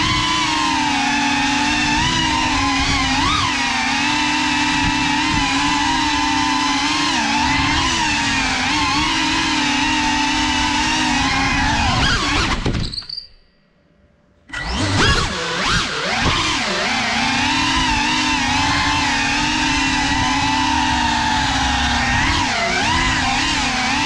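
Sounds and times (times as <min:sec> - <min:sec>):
drone motors whining: 0:00.0 - 0:13.3, 0:14.5 - 0:24.0.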